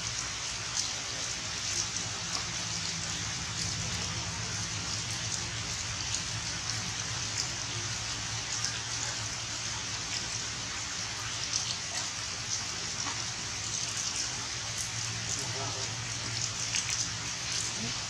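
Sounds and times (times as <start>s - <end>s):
rain on foliage: 0.0s - 18.0s.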